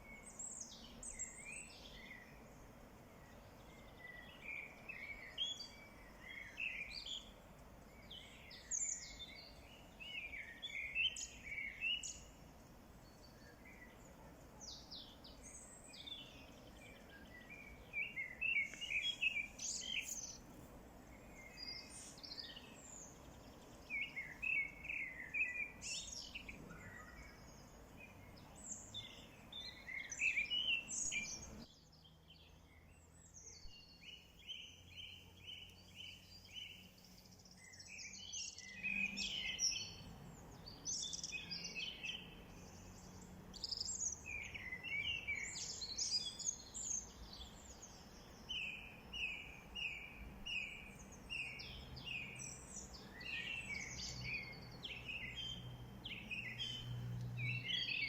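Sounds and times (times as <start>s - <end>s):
outdoor background hiss: 0.0s - 58.0s
songbirds singing and calling: 0.0s - 58.0s.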